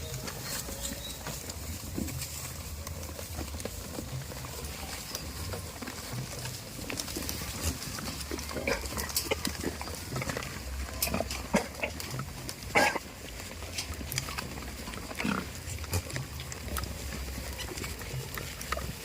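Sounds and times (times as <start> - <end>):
goats' hooves clicking and rustling: 0.0 - 19.0.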